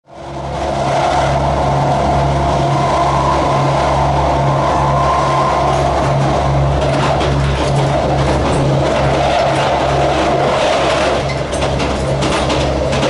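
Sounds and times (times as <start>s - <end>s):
diesel train engine drone: 0.0s - 13.0s
steady whine: 0.0s - 13.0s
train wheels on rails: 0.2s - 13.0s.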